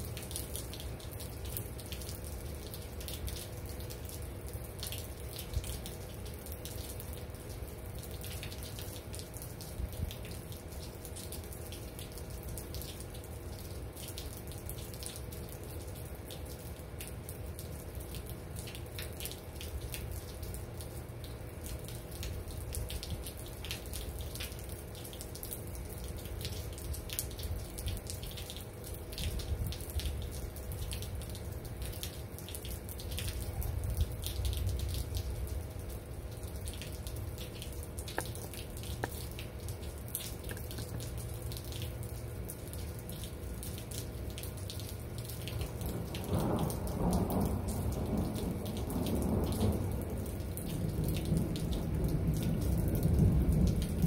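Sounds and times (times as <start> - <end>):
faint steady hum: 0.0 - 50.7
rain drops and drips: 0.0 - 54.0.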